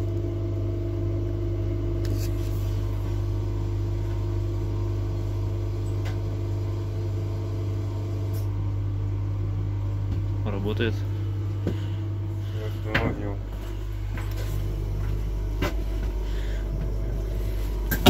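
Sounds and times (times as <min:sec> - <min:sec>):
low equipment hum: 0:00.0 - 0:18.0.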